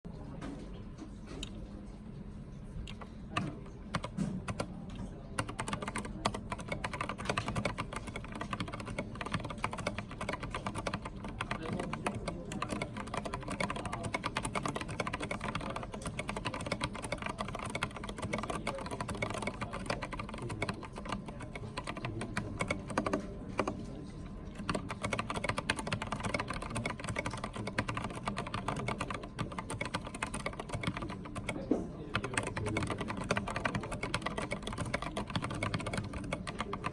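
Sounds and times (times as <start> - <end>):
mechanical keyboard typing: 2.8 - 36.9.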